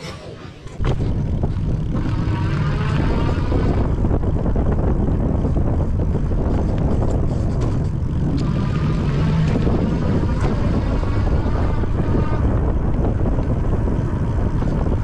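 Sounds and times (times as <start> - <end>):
faint motor whine: 0.0 - 15.0
fat tyres rolling on pavement: 0.3 - 15.0
wind on microphone: 0.6 - 15.0.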